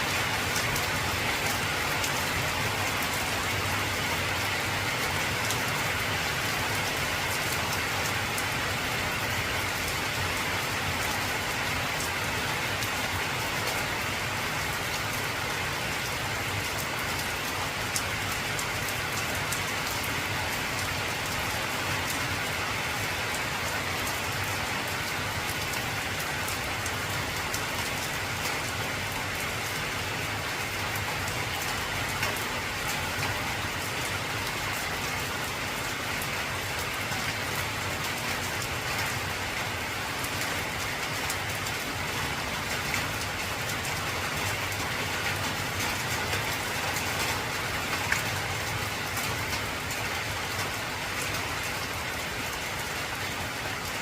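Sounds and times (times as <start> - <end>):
heavy rain on a metal roof: 0.0 - 54.0.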